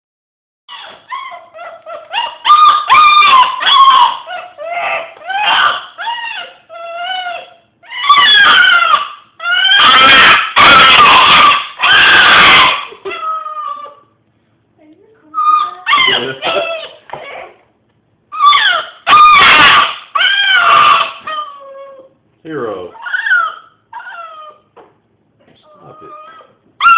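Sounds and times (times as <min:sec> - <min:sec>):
dog howling and whining: 0:00.7 - 0:14.1, 0:15.3 - 0:17.7, 0:18.3 - 0:22.2, 0:22.9 - 0:24.8, 0:25.6 - 0:26.9.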